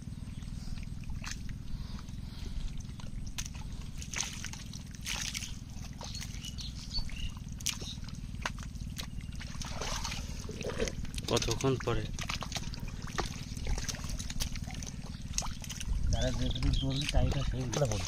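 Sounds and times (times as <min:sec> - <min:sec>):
steady low rumble: 0:00.0 - 0:18.0
hands squelching through mud: 0:00.4 - 0:18.0
wet smacks and splashes: 0:00.8 - 0:18.0.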